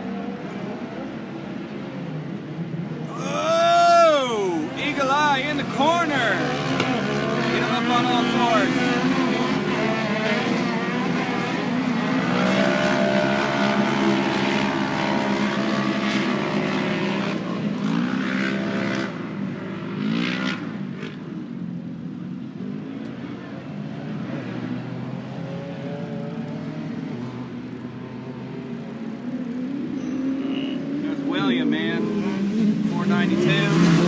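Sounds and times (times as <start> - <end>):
race vehicle engines revving: 0.0 - 34.0.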